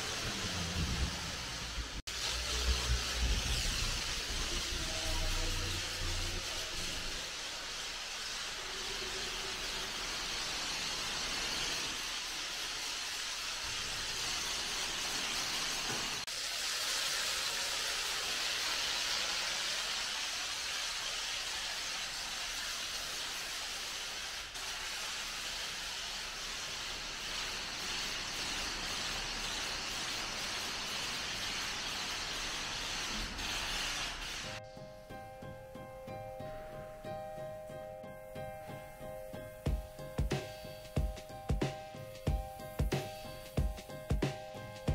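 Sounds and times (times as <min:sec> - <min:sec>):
high-pressure water spray hissing: 0:00.0 - 0:34.6, 0:39.2 - 0:44.9.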